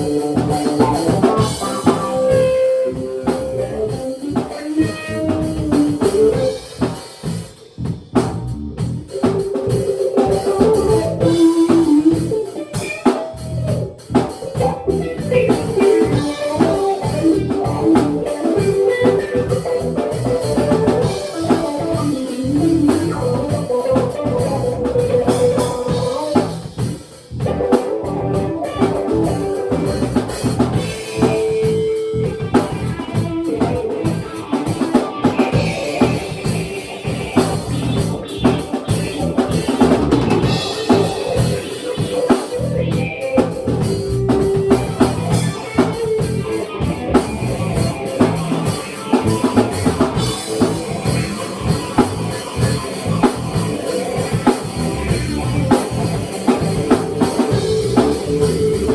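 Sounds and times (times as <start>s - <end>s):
drum kit beat: 0.0s - 58.9s.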